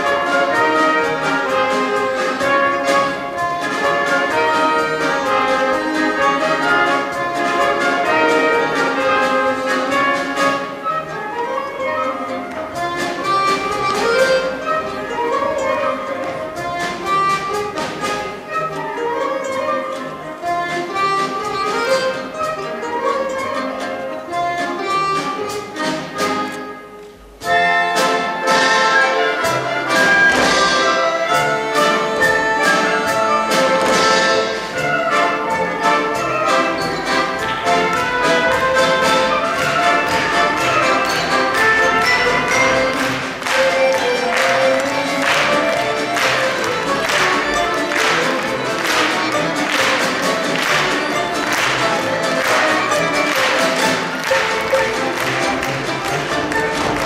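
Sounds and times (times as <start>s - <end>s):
orchestra playing instrumental passage: 0.0s - 57.0s
plucked strings: 0.0s - 57.0s.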